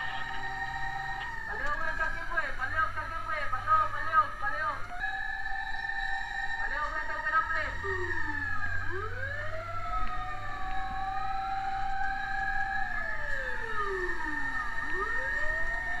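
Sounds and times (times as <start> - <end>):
fire truck sirens wailing: 0.0 - 16.0.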